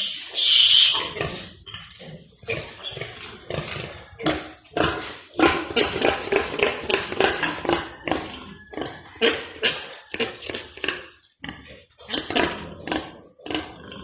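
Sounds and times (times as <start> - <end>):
pigs grunting and feeding: 0.0 - 14.0.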